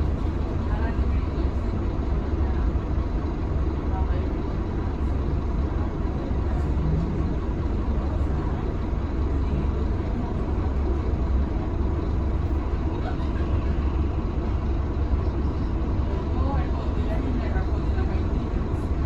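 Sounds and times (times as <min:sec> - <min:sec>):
bus diesel engine rumbling: 0:00.0 - 0:19.0.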